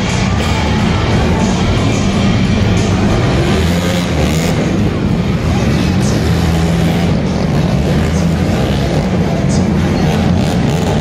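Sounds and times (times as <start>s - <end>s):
truck engine running loud: 0.0s - 11.0s.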